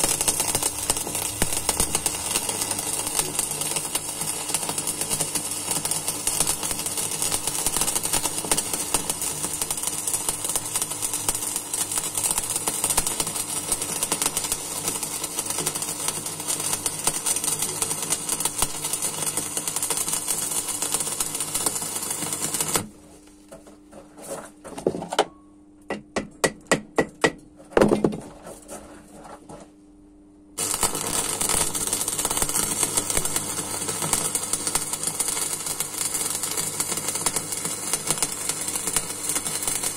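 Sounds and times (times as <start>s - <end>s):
welding arc crackling: 0.0s - 23.0s, 30.6s - 39.9s.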